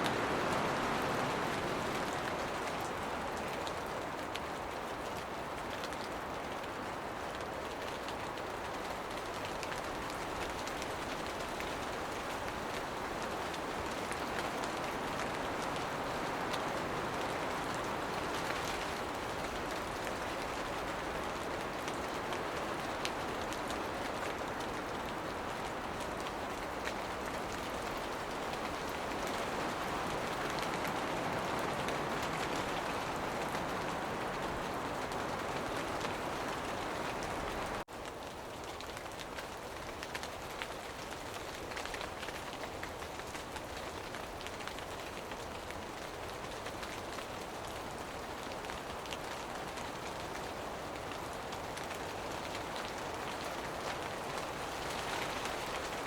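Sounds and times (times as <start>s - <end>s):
rain falling: 0.0s - 56.0s
raindrops ticking on surfaces: 0.0s - 56.0s.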